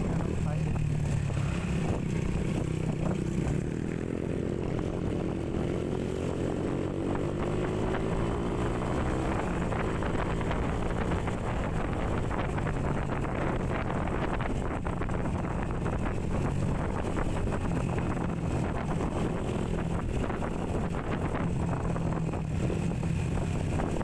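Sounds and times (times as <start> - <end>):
motorcycle engine accelerating: 0.0 - 24.0
wind buffeting microphone: 0.0 - 24.0.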